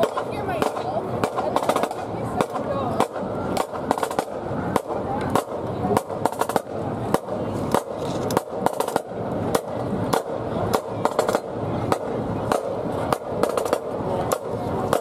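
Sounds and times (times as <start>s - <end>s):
marching drums beat: 0.0s - 15.0s.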